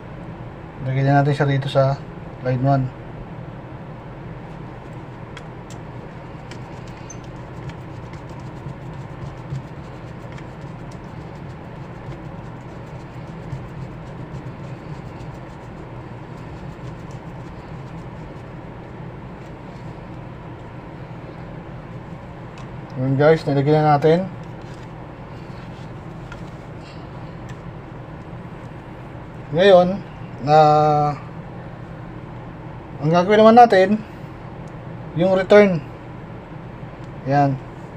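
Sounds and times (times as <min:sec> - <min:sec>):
background hum: 0:00.0 - 0:37.9.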